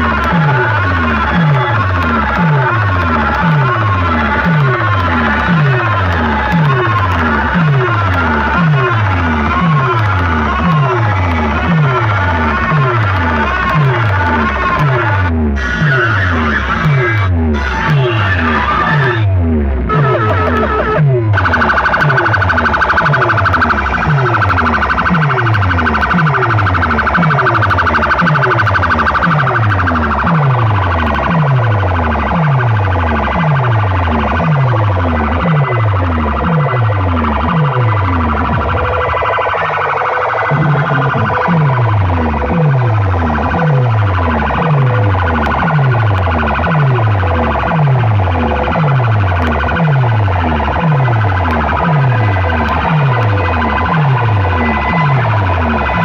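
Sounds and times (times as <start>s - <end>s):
deep bass sweeping downward: 0.0s - 56.0s
siren-like wail: 0.0s - 56.0s.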